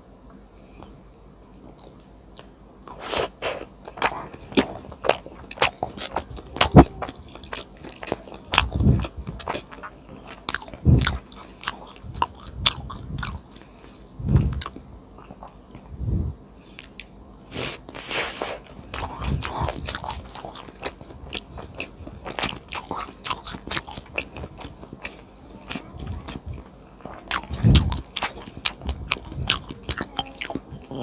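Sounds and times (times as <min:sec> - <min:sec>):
crunching and chewing: 0:00.8 - 0:15.9, 0:16.7 - 0:17.1, 0:17.8 - 0:31.0.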